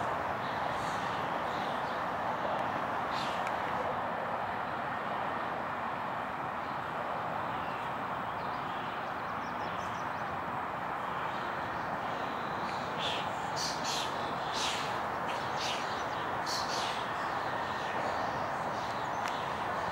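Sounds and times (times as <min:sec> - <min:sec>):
distant city traffic: 0:00.0 - 0:19.9.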